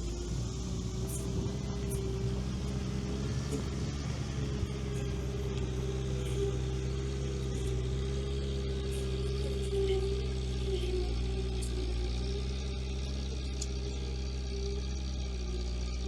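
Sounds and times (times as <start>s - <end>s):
all-terrain vehicle engine running: 0.0s - 16.0s
steady whine: 0.0s - 16.0s.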